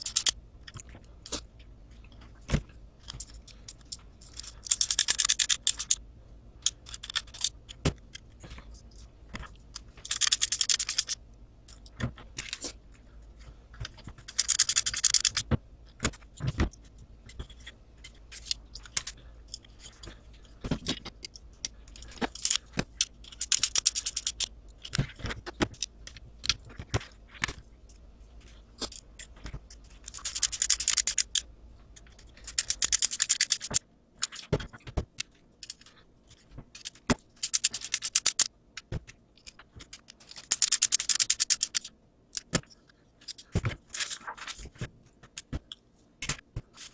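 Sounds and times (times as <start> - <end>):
screwdriver clicking and scraping: 0.0 - 1.5, 3.0 - 6.0, 6.6 - 12.8, 13.8 - 27.6, 28.4 - 46.9
small parts clicking and knocking: 0.0 - 46.9.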